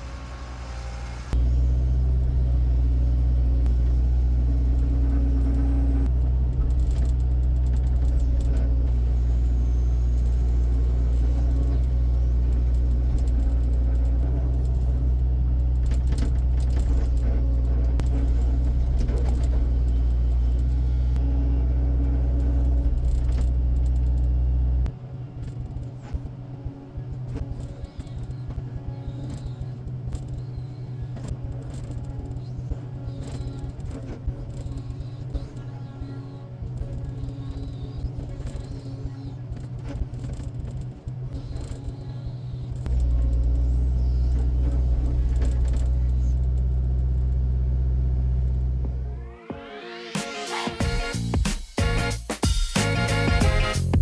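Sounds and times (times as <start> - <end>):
heavy vehicle engine droning: 0.0 - 52.2, 52.8 - 54.0.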